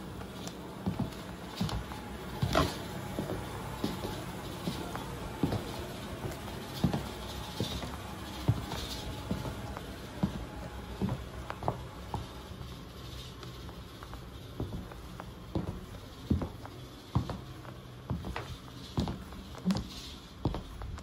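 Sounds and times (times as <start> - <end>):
high heels clicking on wooden floor: 0.1 - 21.0.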